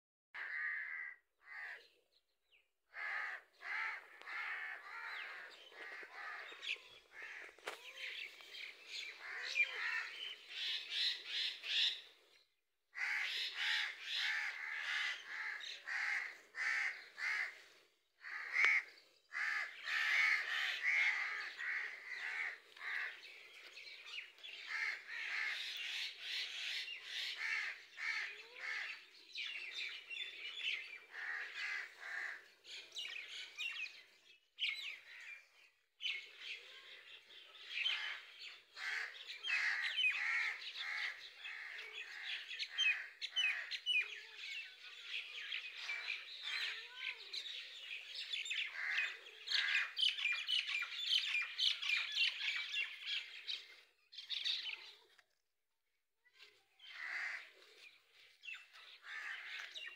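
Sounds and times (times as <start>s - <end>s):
birds calling: 0.4s - 12.4s, 13.0s - 55.0s, 56.8s - 59.9s.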